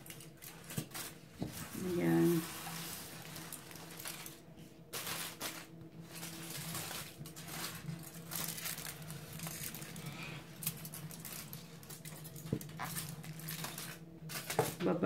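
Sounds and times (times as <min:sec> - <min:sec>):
foil crinkling and rustling: 0:00.0 - 0:15.0.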